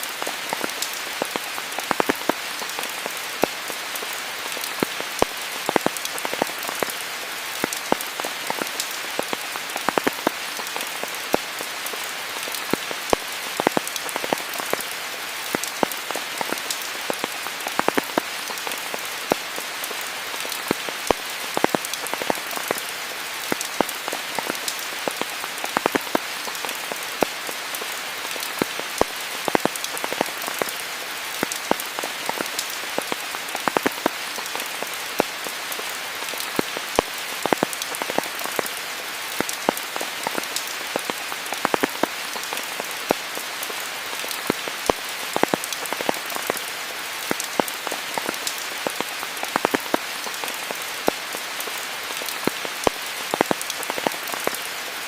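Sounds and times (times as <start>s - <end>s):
rain falling: 0.0s - 55.0s
raindrops striking leaves: 0.0s - 55.0s.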